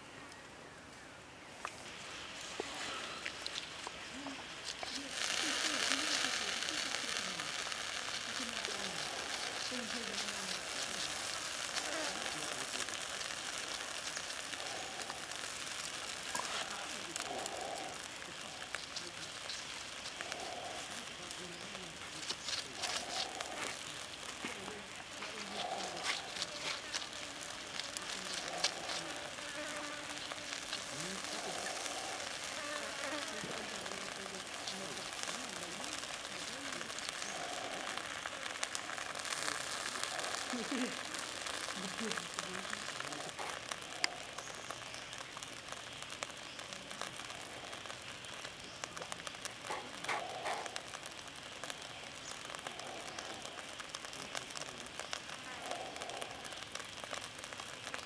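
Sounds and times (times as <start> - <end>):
chicken sizzling over charcoal: 1.2 - 58.0.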